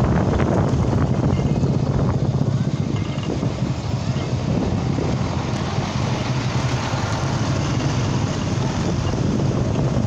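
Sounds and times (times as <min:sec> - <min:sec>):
road noise: 0:00.0 - 0:10.0
small motorcycle engine running: 0:00.0 - 0:10.0.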